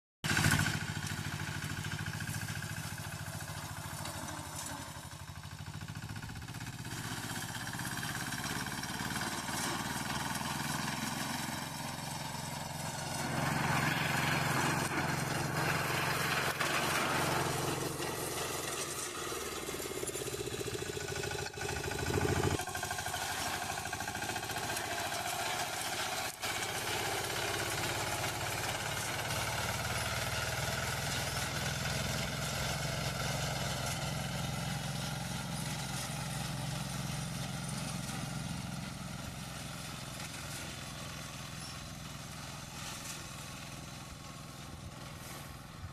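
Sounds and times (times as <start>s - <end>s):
reaper engine running under load: 0.3s - 45.9s.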